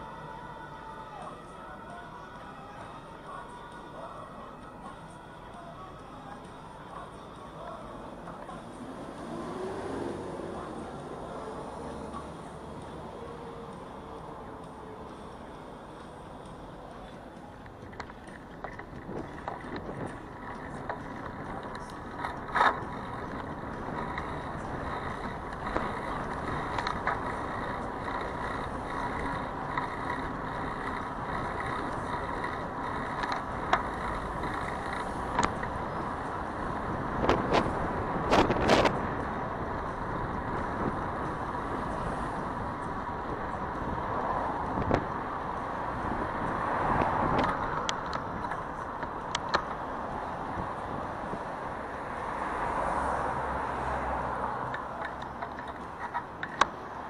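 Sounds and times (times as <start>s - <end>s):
passing motor vehicles: 0.0s - 57.0s.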